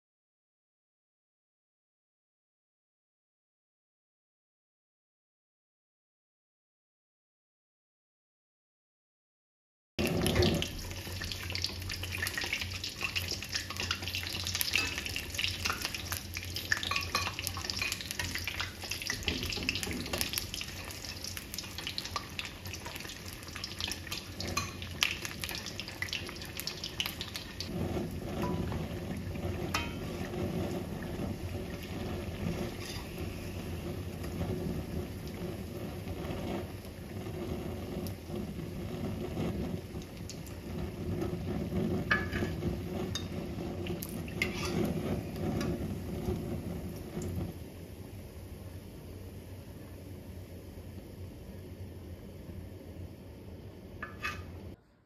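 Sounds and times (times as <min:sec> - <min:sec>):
deep-frying sizzle with pops: 0:10.0 - 0:54.8.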